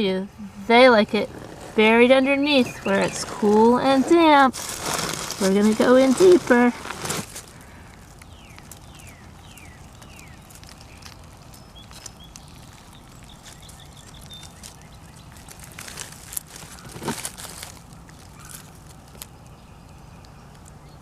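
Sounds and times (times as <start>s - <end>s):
birds chirping: 0.0s - 21.0s
digging through compost: 0.9s - 19.4s
crunching scrapes: 1.1s - 19.5s.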